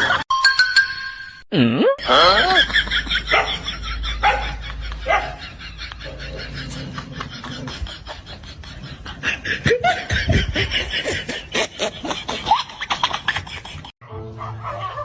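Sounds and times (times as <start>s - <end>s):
person laughing: 1.6s - 13.9s.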